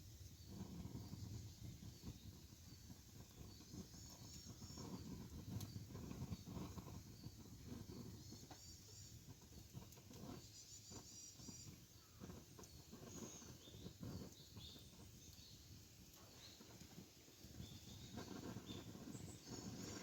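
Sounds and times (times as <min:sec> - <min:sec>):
campfire crackling: 0:00.0 - 0:20.0
small birds chirping: 0:00.2 - 0:20.0.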